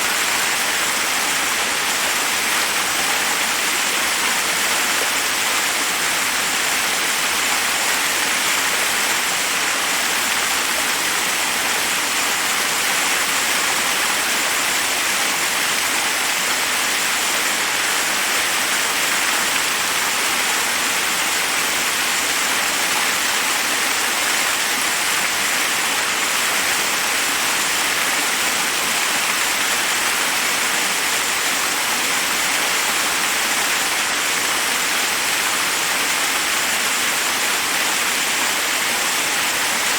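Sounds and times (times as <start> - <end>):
waterfall over rocks: 0.0 - 39.9.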